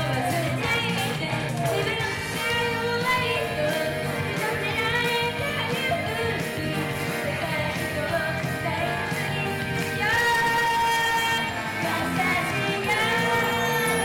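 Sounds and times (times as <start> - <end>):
upbeat pop accompaniment: 0.0 - 14.0
young women singing: 0.0 - 14.0.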